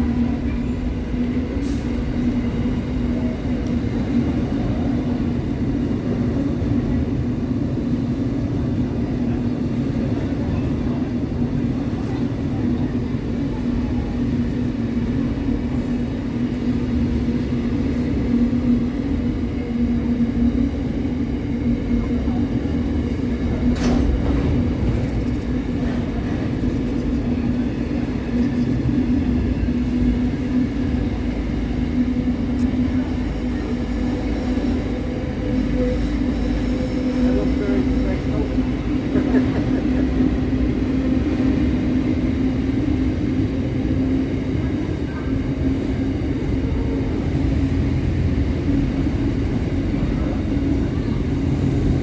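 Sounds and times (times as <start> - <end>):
train rumble: 0.0 - 52.0.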